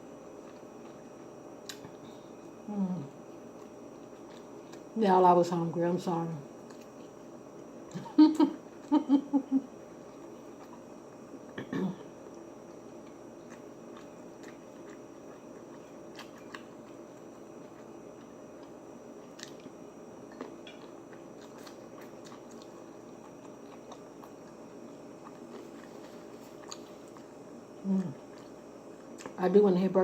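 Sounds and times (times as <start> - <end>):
person chewing food: 0.3 - 5.0, 6.6 - 8.0, 9.8 - 29.4.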